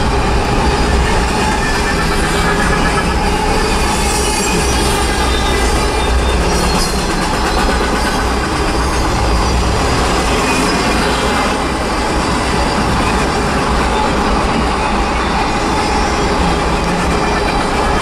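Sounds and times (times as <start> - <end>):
freight train passing: 0.0 - 18.0.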